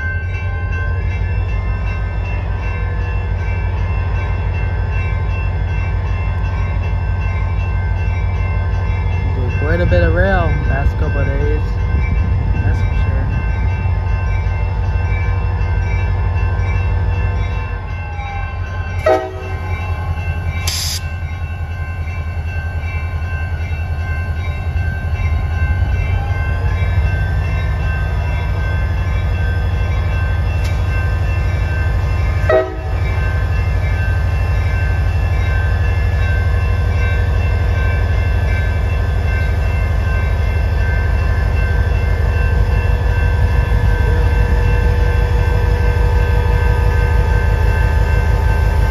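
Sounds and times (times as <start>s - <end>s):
diesel locomotive engine rumbling: 0.0s - 48.9s.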